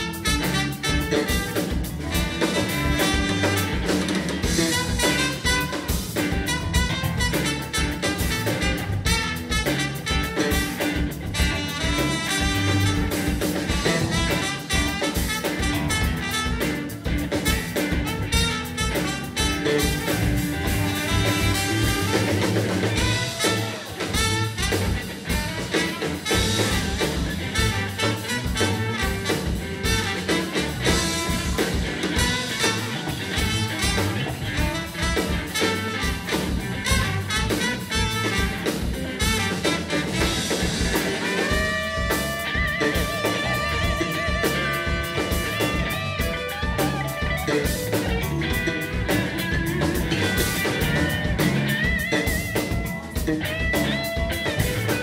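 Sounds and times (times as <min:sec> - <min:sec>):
bass: 0:00.0 - 0:55.0
drum kit: 0:00.0 - 0:55.0
electric guitar: 0:00.0 - 0:55.0
trumpet: 0:00.0 - 0:55.0.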